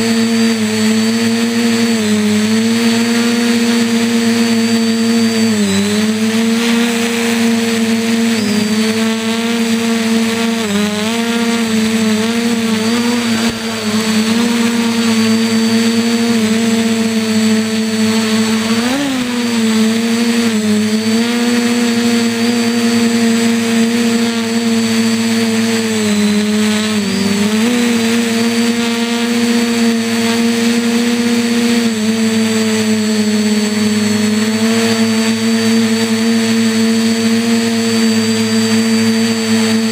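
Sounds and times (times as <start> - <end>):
quadcopter motors and propellers: 0.0 - 39.9.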